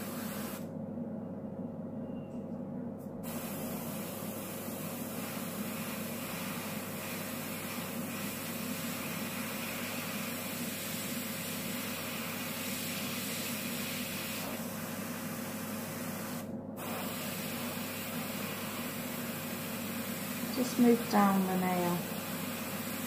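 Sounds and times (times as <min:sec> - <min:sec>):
airbrush hissing: 0:00.0 - 0:00.6, 0:03.2 - 0:23.0.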